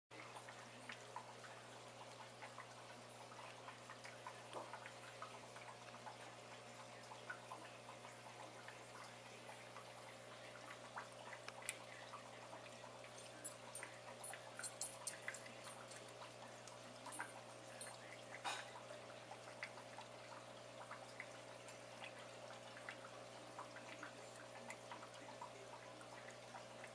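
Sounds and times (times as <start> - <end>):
aquarium water trickling: 0.1 - 26.9
small clicks and ticks: 0.2 - 26.9.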